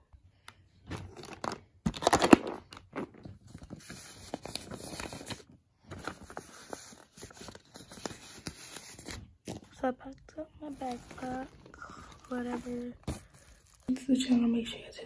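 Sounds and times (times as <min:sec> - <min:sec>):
plastic pouch crinkling: 0:01.1 - 0:10.0, 0:10.6 - 0:14.3.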